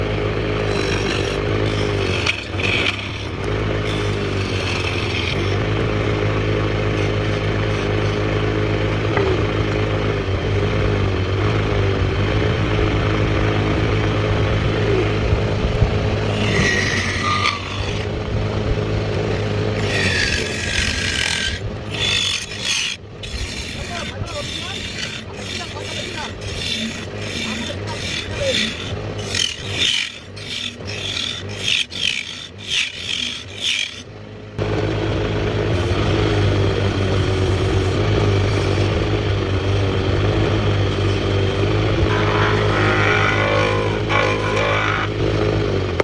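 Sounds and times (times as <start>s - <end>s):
tool scraping spinning wood: 0.0s - 46.0s
wood lathe motor humming: 0.0s - 46.0s.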